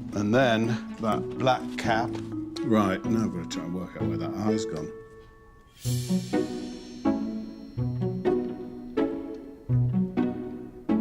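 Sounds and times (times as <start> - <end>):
plucked string music: 0.0 - 11.0.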